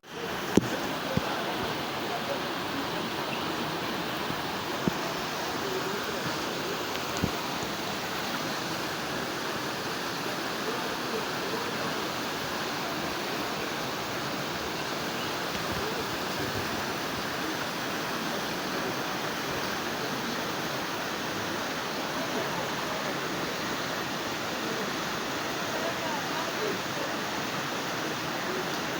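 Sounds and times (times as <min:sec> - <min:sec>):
floodwater rushing: 0:00.0 - 0:28.9.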